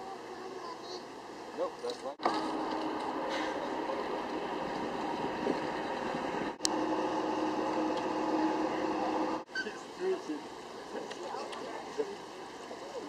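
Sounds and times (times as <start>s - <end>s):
bus engine hum: 0.3s - 13.0s.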